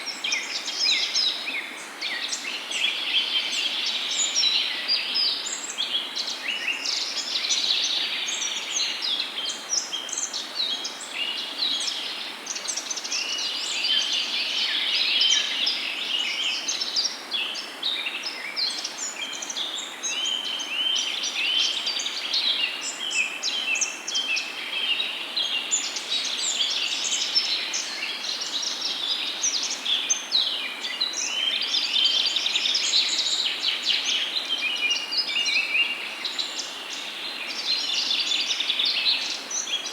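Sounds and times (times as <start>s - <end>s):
low background hiss: 0.0s - 39.9s
songbirds chirping and trilling: 0.0s - 39.9s.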